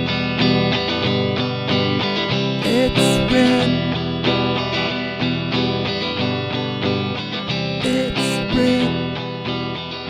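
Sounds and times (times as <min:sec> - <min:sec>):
guitar chords strummed: 0:00.0 - 0:10.0.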